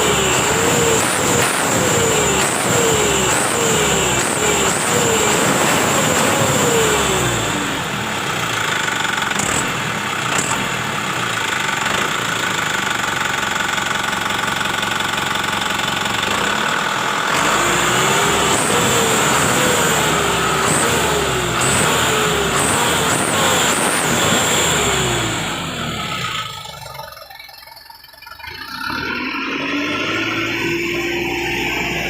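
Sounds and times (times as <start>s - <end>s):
truck diesel engine revving: 0.0s - 27.1s, 28.4s - 32.0s.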